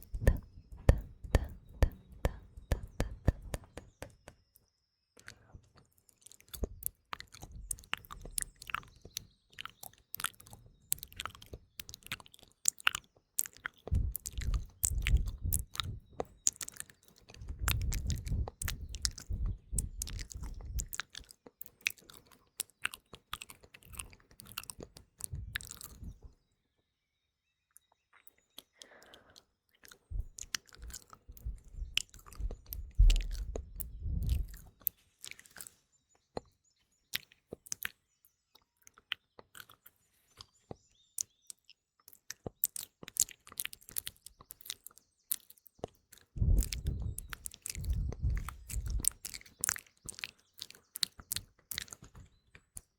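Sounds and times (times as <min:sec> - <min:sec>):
wet mouth clicks and lip smacks: 0:00.0 - 0:04.4, 0:05.2 - 0:26.3, 0:27.8 - 0:35.8, 0:37.1 - 0:38.0, 0:41.2 - 0:52.9.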